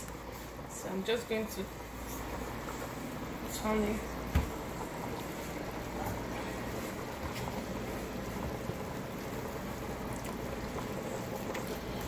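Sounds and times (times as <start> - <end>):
pot simmering with crackling hiss: 0.0 - 12.0.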